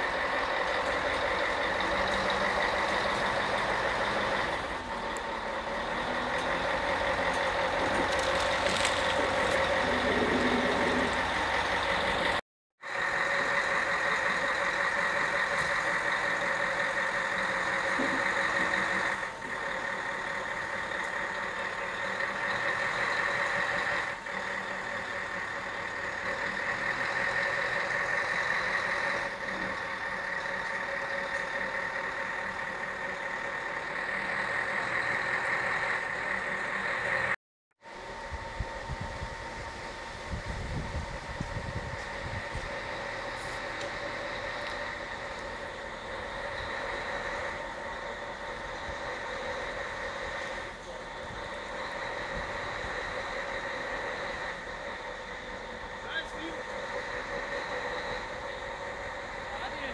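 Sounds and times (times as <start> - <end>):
diesel truck engines running: 0.0 - 59.9.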